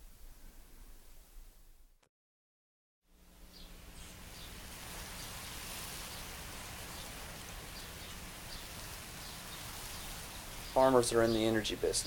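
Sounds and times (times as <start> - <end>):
steady outdoor hiss: 0.0 - 1.9, 3.1 - 12.0.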